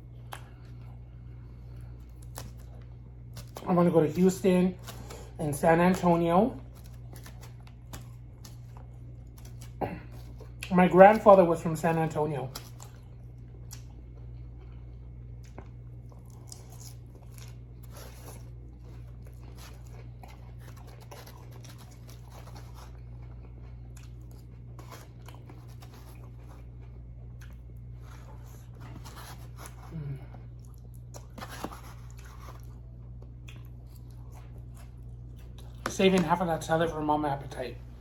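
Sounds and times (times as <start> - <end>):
person chewing crunchy food: 0.0 - 3.6, 4.2 - 11.3, 12.5 - 36.0
steady low hum: 0.0 - 38.0.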